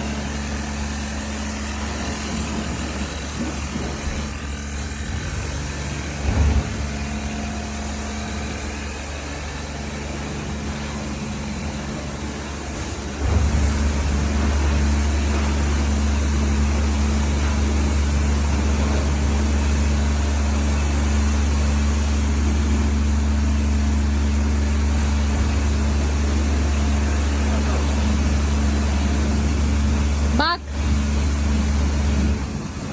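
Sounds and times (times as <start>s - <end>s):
sprayer pump motor humming: 0.0s - 32.9s.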